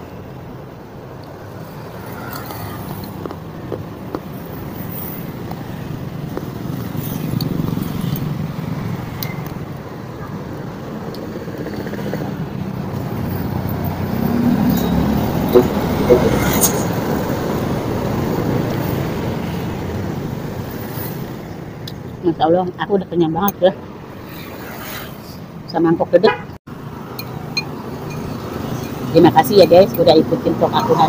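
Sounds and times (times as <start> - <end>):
rumble of passing vehicles: 0.0 - 31.0.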